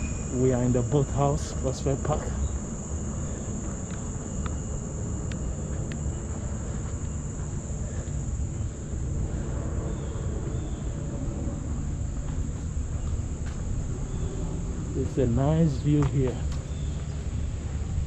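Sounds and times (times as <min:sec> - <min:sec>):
high-pitched insect drone: 0:00.0 - 0:18.0
low rumble: 0:00.0 - 0:18.0.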